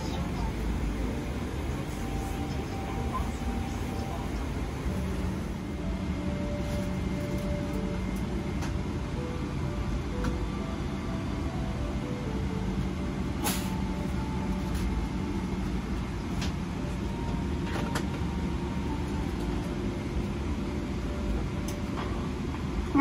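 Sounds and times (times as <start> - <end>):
airplane cabin rumble and hiss: 0.0 - 23.0.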